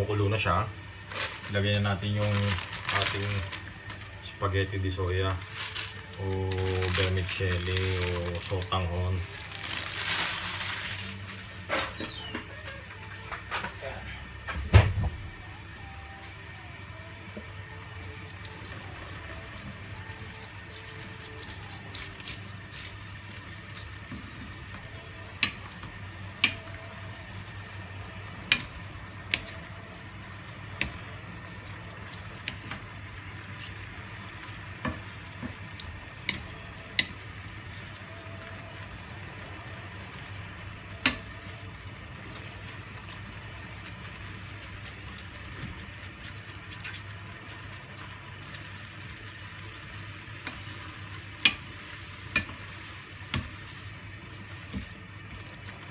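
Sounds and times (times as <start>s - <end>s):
broth simmering hiss: 0.0s - 55.9s.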